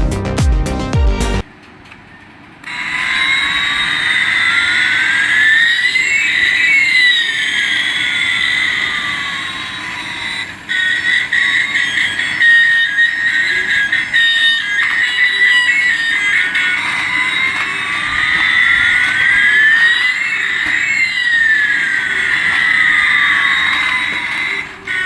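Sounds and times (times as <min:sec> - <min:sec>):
electronic toy jet engine tone: 0:02.6 - 0:25.0.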